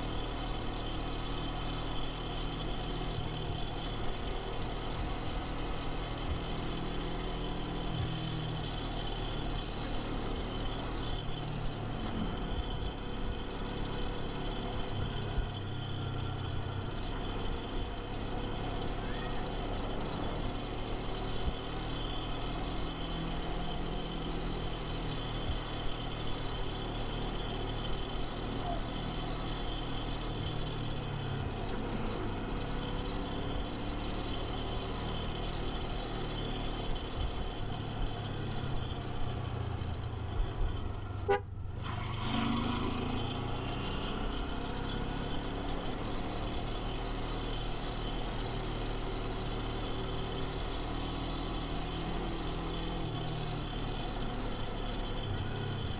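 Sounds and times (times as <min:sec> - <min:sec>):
motorcycle engine running: 0:00.0 - 0:55.9
road noise: 0:00.0 - 0:55.9.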